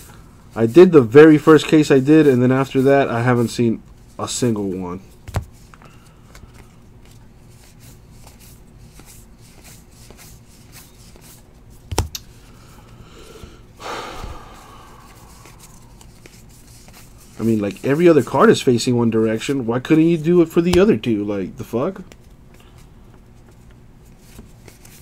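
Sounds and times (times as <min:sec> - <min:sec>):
cards ticking and shuffling: 0:01.4 - 0:13.0, 0:15.0 - 0:18.6, 0:19.2 - 0:25.0.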